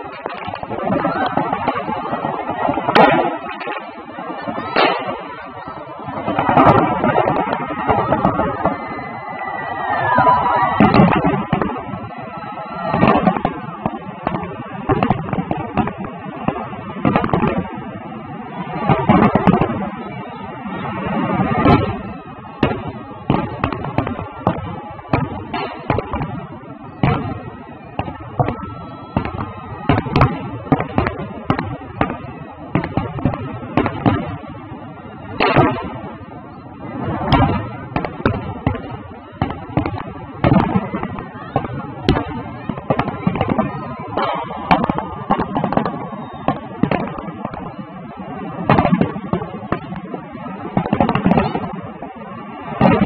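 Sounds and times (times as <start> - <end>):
fireworks bangs: 0.0 - 53.0
fireworks crackle: 0.0 - 53.0.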